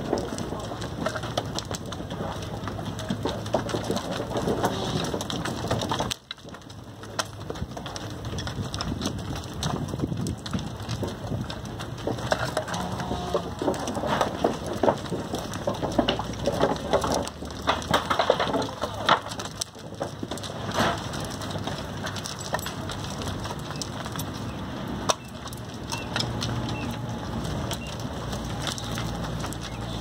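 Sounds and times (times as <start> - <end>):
hooves crunching on dry dirt: 0.0 - 30.0.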